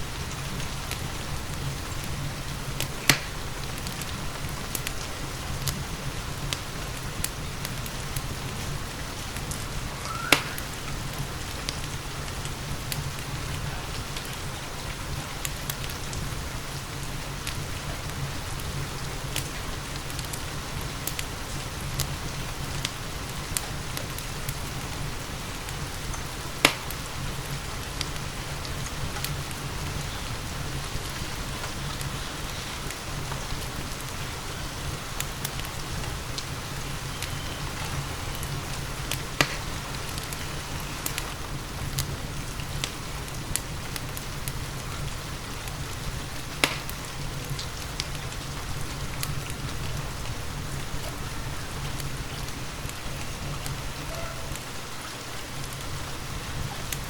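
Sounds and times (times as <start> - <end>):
steady rain: 0.0 - 57.0
wood fire crackling and popping: 0.0 - 57.0.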